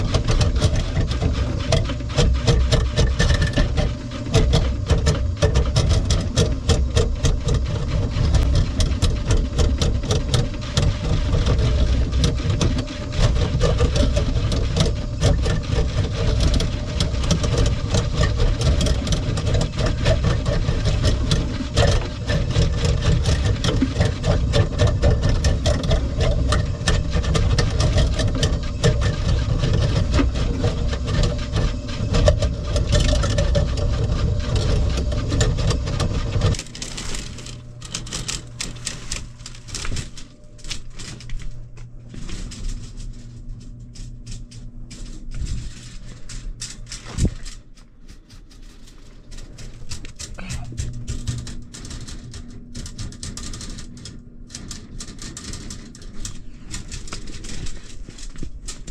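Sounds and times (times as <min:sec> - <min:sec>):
drain cleaning machine motor hum: 0:00.0 - 0:58.9
spinning cable clicking and rattling: 0:00.0 - 0:58.9.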